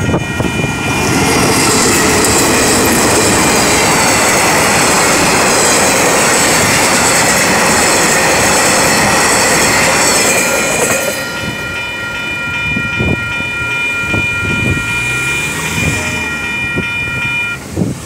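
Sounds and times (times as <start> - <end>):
level crossing warning bells: 0.0 - 18.0
train wagons rattling rumble: 0.0 - 18.0.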